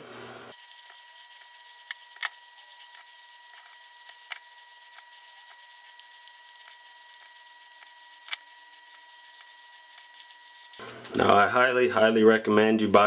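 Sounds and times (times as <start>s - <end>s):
faint steady high whine: 0.0s - 13.0s.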